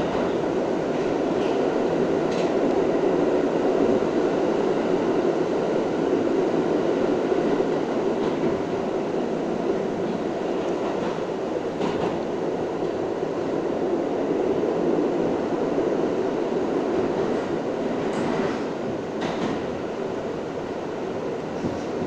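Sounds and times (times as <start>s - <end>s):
subway train roaring through tunnel: 0.0s - 22.0s.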